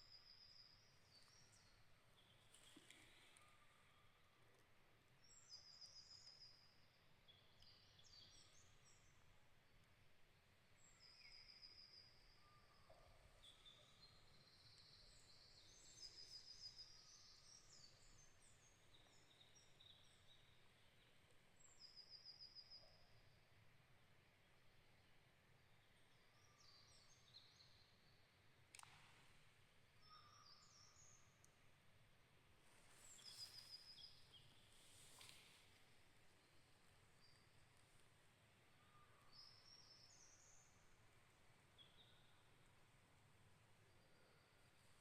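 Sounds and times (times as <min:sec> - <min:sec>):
small birds singing: 0:00.0 - 0:04.2, 0:05.2 - 0:09.8, 0:10.8 - 0:23.6, 0:25.7 - 0:29.0, 0:30.0 - 0:31.6, 0:33.0 - 0:42.6.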